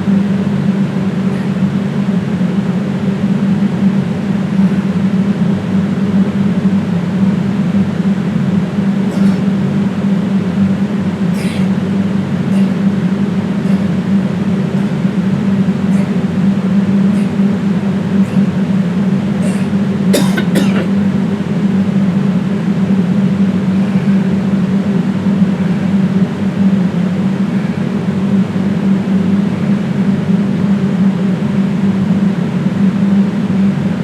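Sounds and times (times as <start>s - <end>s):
loud mechanical hum: 0.0s - 34.0s.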